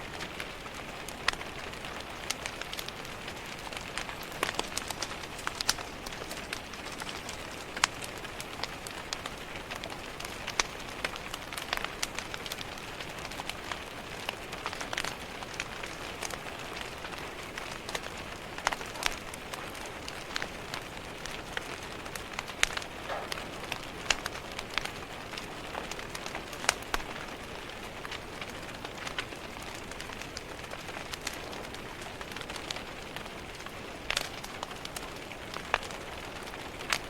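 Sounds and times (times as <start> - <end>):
fireplace fire popping and crackling: 0.0 - 37.0
rain hiss: 0.0 - 37.0.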